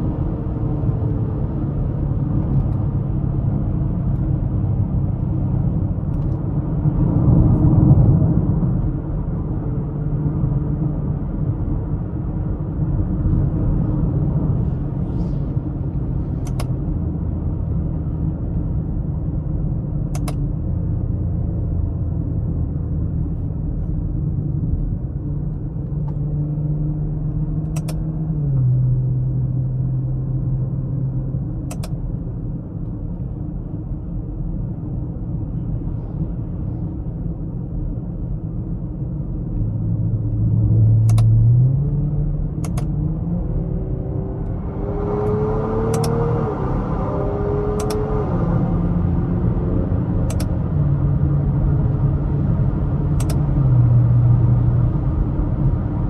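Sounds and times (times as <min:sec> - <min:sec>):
car engine droning while driving: 0:00.0 - 0:56.0.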